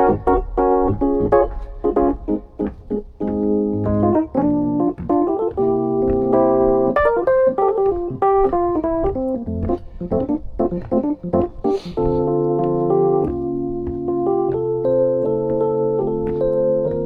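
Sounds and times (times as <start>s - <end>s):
keyboard instrumental music: 0.0s - 17.0s.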